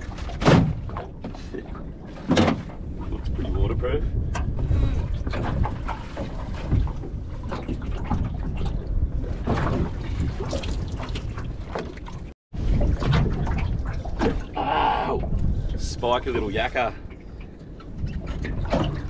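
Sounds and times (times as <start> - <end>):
seawater sloshing and trickling: 0.0 - 19.0
wind buffeting microphone: 0.0 - 19.0.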